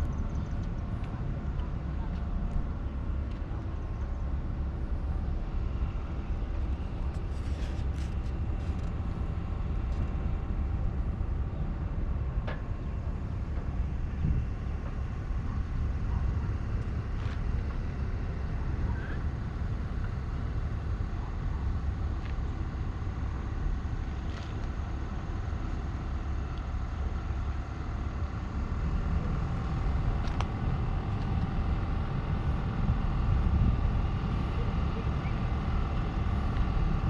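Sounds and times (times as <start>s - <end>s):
vehicle engine rumble: 0.0s - 37.0s.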